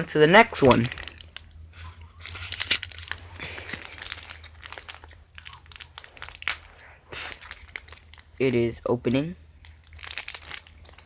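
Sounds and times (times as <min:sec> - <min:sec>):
foil wrapper crinkling and tearing: 0:00.5 - 0:08.7, 0:09.6 - 0:11.0.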